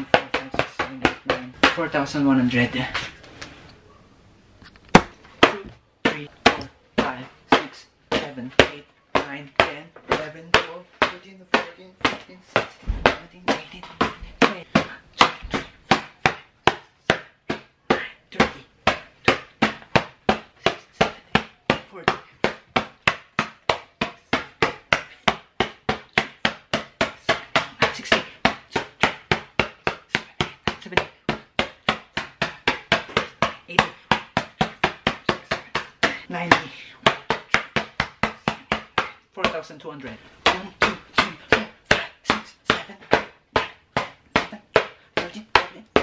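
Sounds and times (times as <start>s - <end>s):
hand slapping paper: 4.9s - 39.6s, 40.3s - 46.0s.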